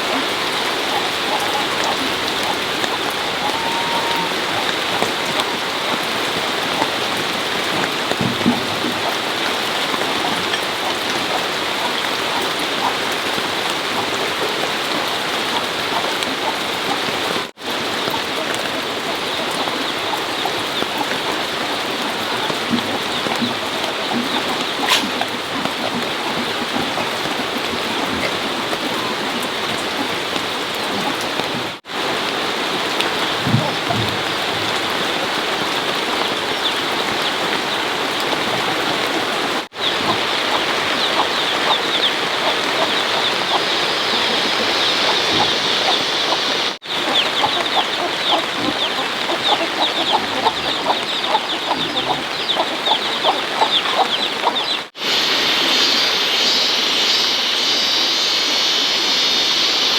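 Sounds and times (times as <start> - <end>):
chickens clucking: 0.0 - 55.2
steady rain: 0.0 - 59.9.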